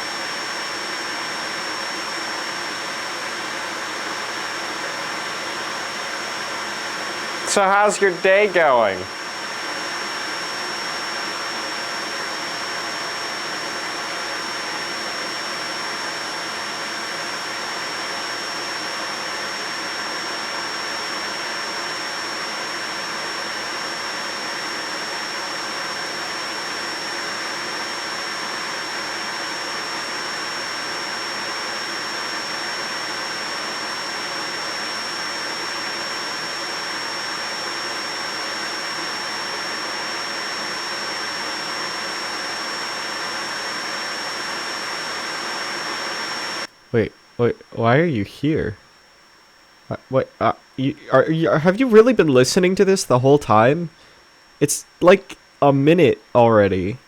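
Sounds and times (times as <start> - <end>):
vacuum cleaner running: 0.0 - 46.7.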